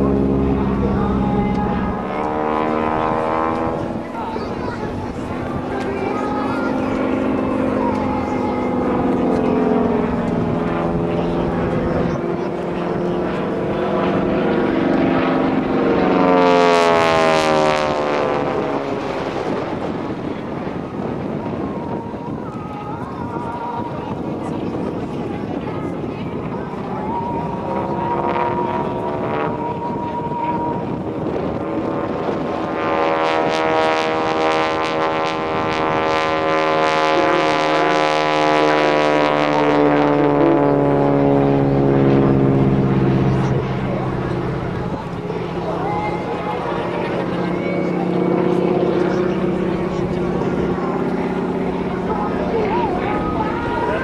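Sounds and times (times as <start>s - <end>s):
propeller plane flying past: 0.0s - 54.0s.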